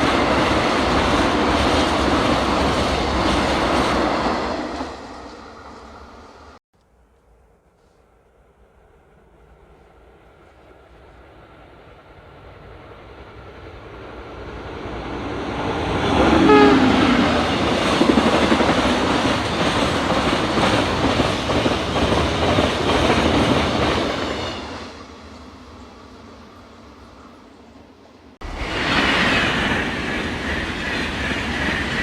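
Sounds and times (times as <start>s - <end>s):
train passing: 0.0s - 6.6s, 7.3s - 32.0s.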